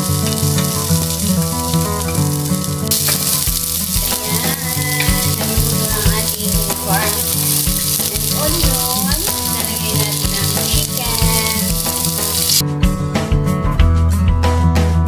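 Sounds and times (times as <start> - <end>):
onion and garlic sizzling in oil: 0.0 - 12.6
music playing: 0.0 - 15.0.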